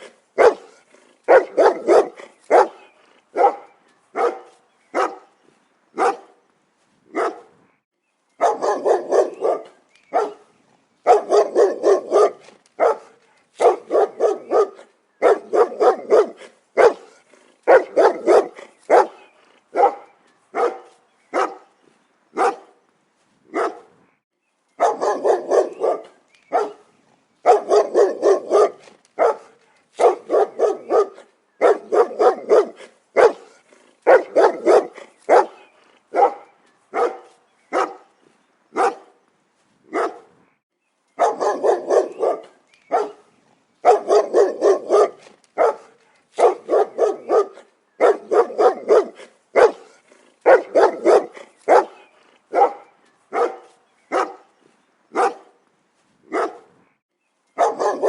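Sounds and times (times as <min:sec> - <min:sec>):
dog barking: 0:00.0 - 0:05.3, 0:06.0 - 0:06.4, 0:07.1 - 0:07.6, 0:08.4 - 0:21.7, 0:22.4 - 0:22.8, 0:23.5 - 0:23.9, 0:24.8 - 0:38.1, 0:38.7 - 0:39.2, 0:39.9 - 0:40.3, 0:41.2 - 0:54.5, 0:55.1 - 0:55.6, 0:56.3 - 0:56.7, 0:57.6 - 0:58.0.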